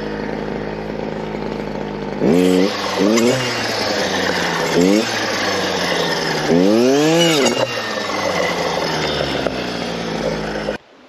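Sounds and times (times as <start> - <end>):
clearing saw engine revving: 0.0 - 10.8.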